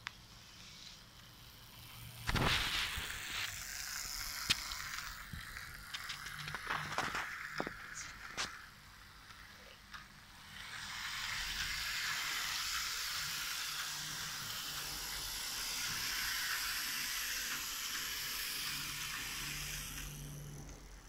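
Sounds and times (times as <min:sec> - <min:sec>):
model train motor whirring: 0:00.0 - 0:21.0.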